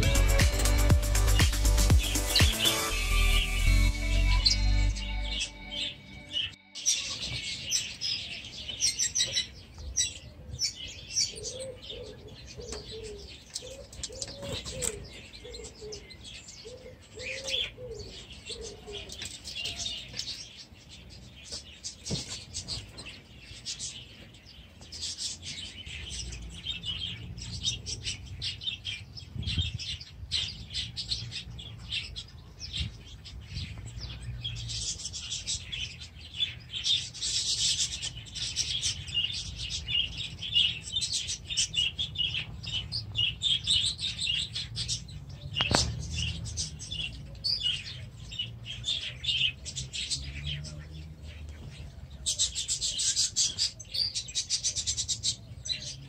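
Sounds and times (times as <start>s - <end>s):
canaries singing: 0.0s - 56.0s.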